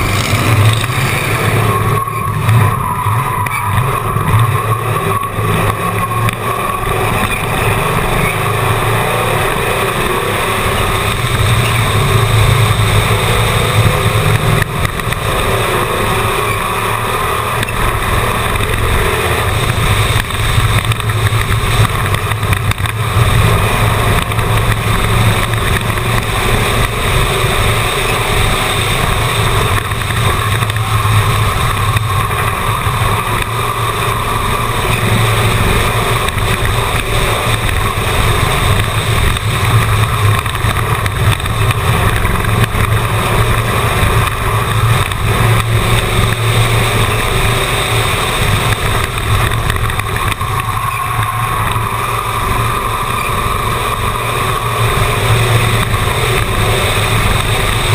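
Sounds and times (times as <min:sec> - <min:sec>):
race car engine droning: 0:00.0 - 0:57.9.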